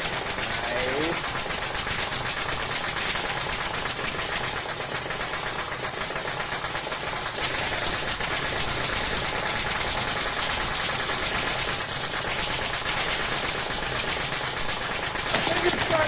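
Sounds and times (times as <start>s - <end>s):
nail gun firing: 0.0s - 16.0s.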